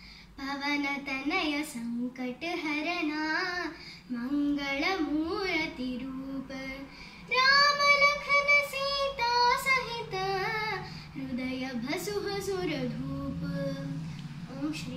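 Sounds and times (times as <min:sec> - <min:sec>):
girl singing a devotional chant: 0:00.0 - 0:14.9.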